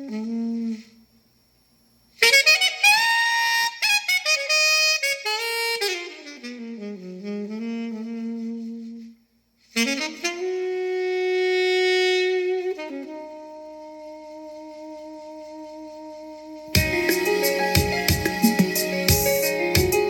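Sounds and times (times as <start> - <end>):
saxophone melody: 0.0 - 1.0, 2.2 - 20.0.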